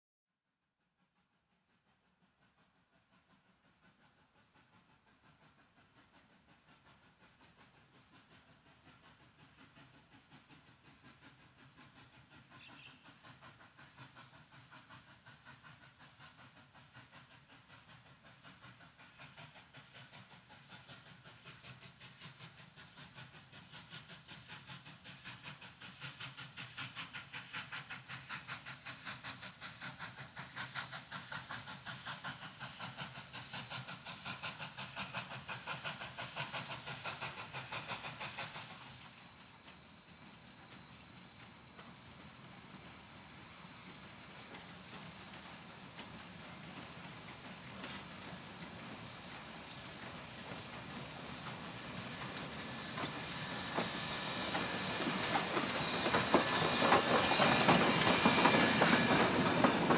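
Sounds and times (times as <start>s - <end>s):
steam locomotive chuffing: 1.0s - 59.9s.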